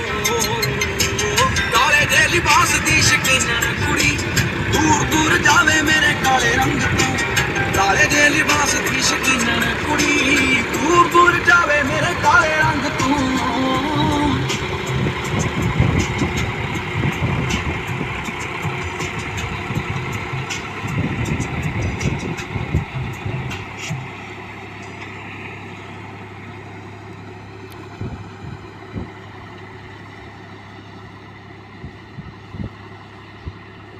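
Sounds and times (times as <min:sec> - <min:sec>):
engine clicks and knocks: 0:00.0 - 0:33.9
tractor diesel engine running: 0:00.0 - 0:33.9.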